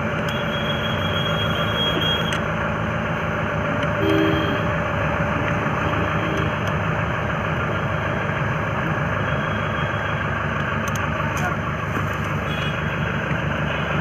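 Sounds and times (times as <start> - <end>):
motor idling: 0.1 - 14.0.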